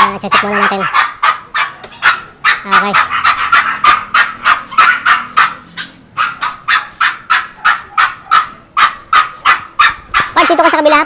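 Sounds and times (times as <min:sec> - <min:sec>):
dog barking rapidly: 0:00.0 - 0:11.0.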